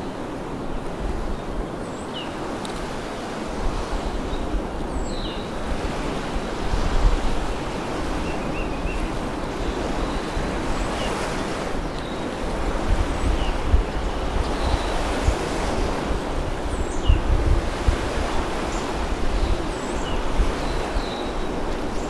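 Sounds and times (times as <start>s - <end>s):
waves washing onto beach: 0.0s - 22.0s
wind: 0.0s - 22.0s.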